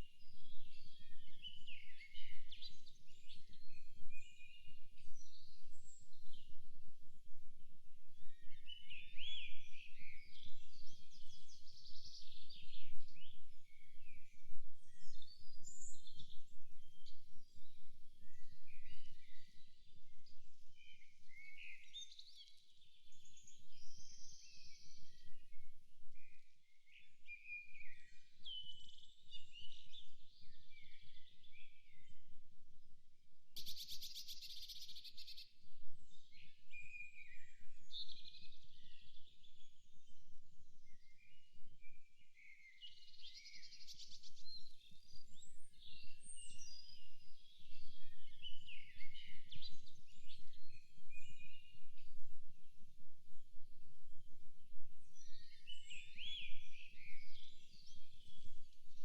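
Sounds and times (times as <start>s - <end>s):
songbirds singing and calling: 0.0s - 32.4s, 33.6s - 59.0s.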